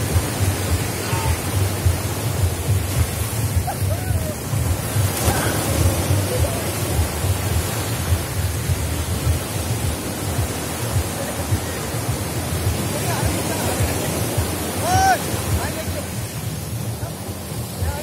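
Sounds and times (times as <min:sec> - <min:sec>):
sea waves breaking on shore: 0:00.0 - 0:18.0
wind buffeting microphone: 0:00.0 - 0:18.0.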